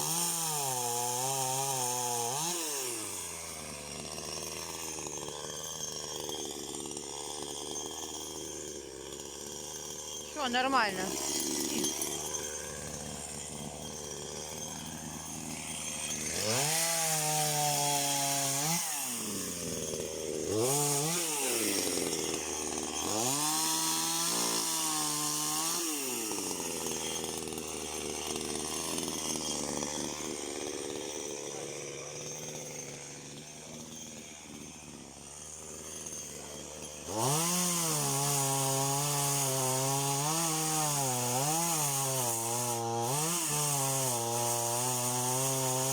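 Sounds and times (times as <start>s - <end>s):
chainsaw engine revving: 0.0s - 45.9s.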